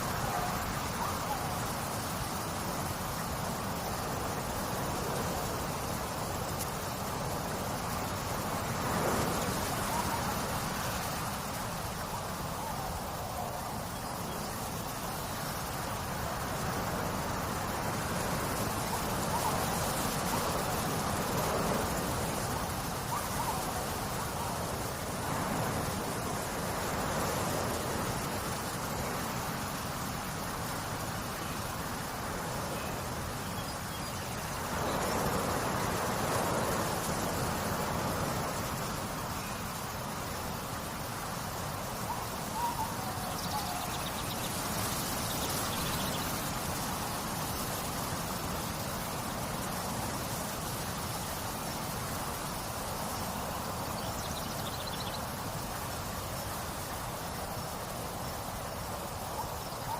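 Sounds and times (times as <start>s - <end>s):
water flowing: 0.0s - 59.9s.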